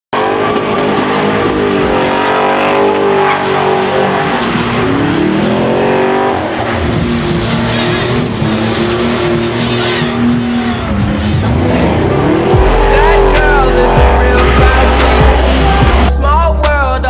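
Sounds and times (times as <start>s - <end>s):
truck engine revving: 0.1s - 17.0s.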